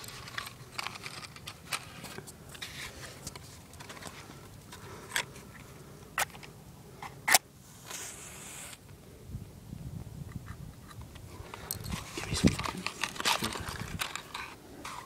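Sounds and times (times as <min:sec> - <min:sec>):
handling rustling and scraping: 0:00.0 - 0:08.8, 0:10.5 - 0:15.0.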